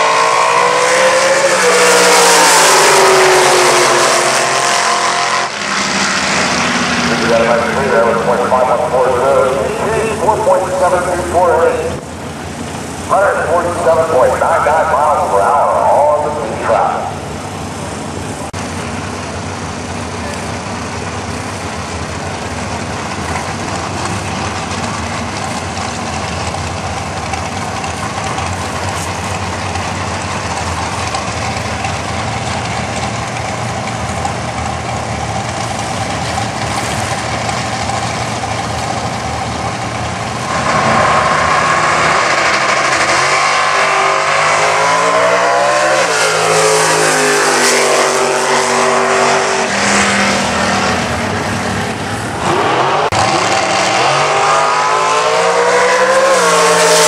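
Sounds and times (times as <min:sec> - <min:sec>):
drag racing car engines: 0:00.0 - 0:57.0.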